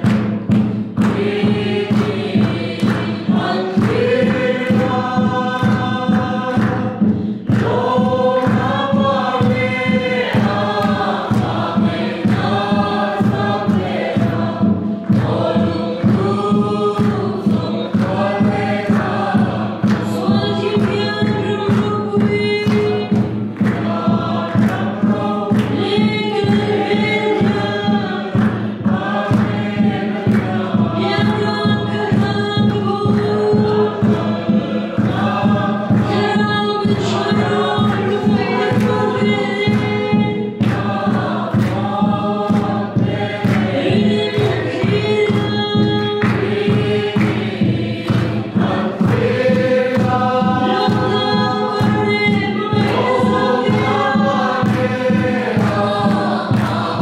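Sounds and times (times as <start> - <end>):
barrel drum beat: 0.0 - 57.0
group singing a hymn: 0.0 - 57.0.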